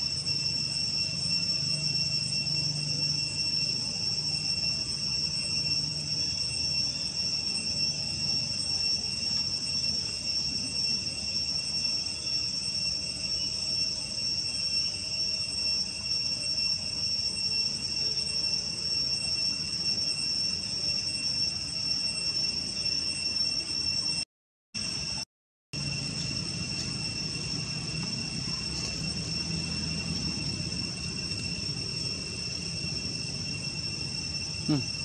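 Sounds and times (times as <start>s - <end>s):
insects droning: 0.0s - 24.2s, 24.8s - 35.0s.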